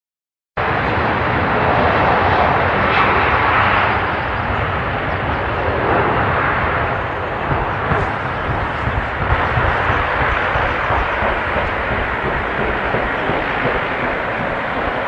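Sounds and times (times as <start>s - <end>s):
jet engines running: 0.6s - 15.0s.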